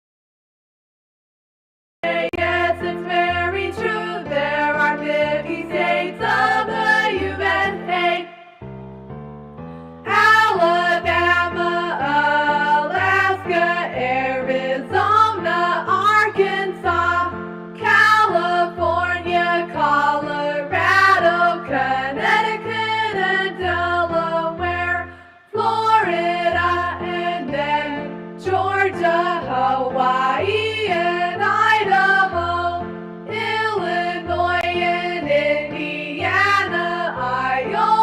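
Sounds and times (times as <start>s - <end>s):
children's song singing: 2.0s - 8.6s, 10.1s - 38.0s
synthesized backing music: 2.0s - 38.0s.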